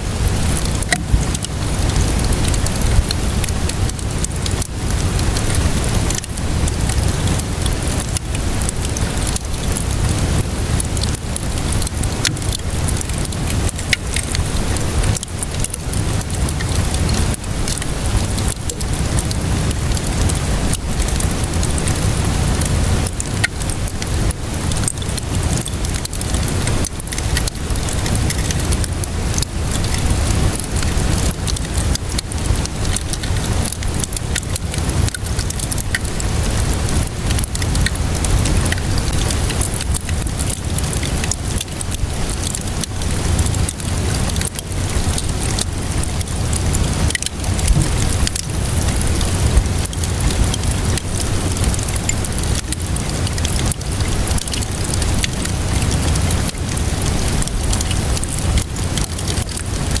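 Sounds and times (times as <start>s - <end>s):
rainfall hiss: 0.0s - 60.0s
wood fire crackling: 0.0s - 60.0s.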